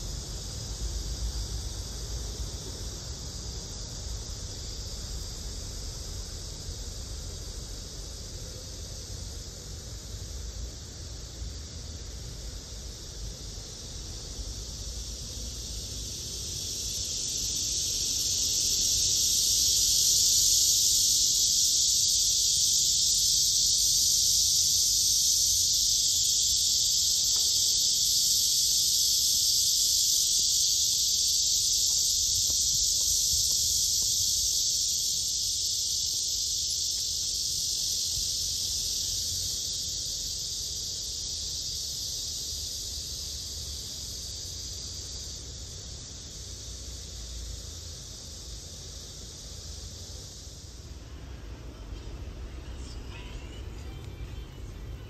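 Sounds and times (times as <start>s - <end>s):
cicada buzzing: 0.0s - 55.0s.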